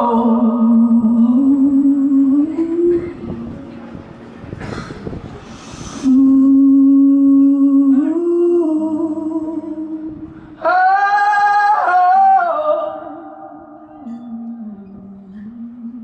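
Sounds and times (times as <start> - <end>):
man singing long held notes: 0.0 - 3.6, 5.7 - 16.0.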